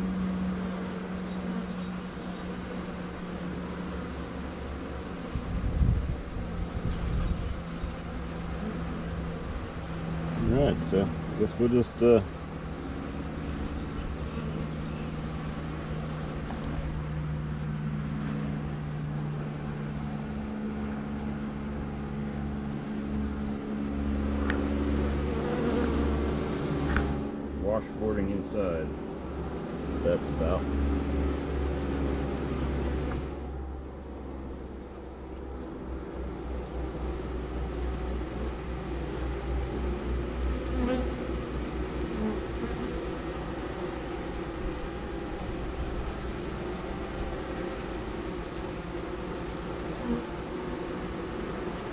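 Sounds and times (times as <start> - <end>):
honey bees humming: 0.0 - 51.9
low fluttering rumble: 4.6 - 11.4, 12.6 - 51.9.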